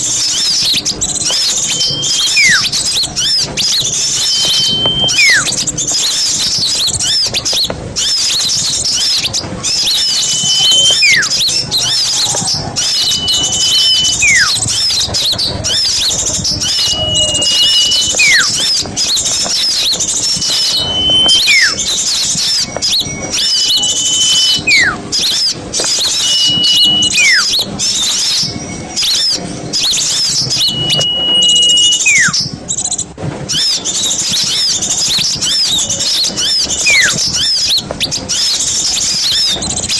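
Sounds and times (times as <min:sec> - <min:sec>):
flock of small birds chattering: 0:00.0 - 0:39.9
bird falling whistle call: 0:00.2 - 0:32.5, 0:33.5 - 0:39.9.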